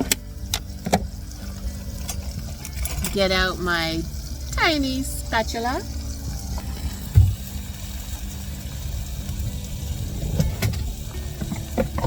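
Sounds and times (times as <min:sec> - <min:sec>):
engine idling low rumble: 0:00.0 - 0:12.0.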